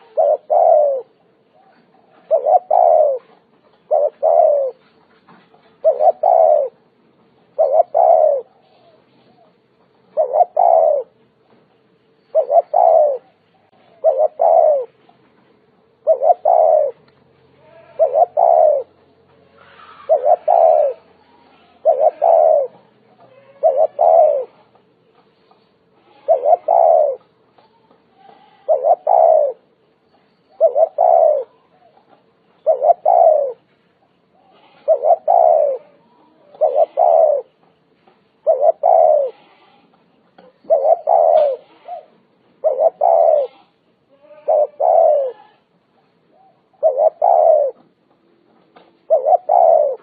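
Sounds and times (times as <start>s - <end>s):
dove cooing: 0.0s - 6.9s, 7.5s - 11.2s, 12.3s - 15.2s, 15.9s - 17.1s, 17.7s - 24.8s, 26.0s - 29.7s, 30.5s - 33.7s, 34.3s - 37.6s, 38.4s - 45.7s, 46.3s - 48.0s, 48.7s - 50.0s.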